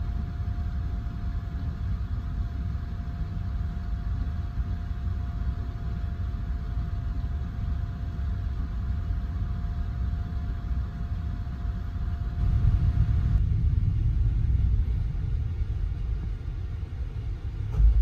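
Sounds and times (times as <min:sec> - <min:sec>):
faint constant hum: 0:00.0 - 0:18.0
train low rumble: 0:00.0 - 0:18.0.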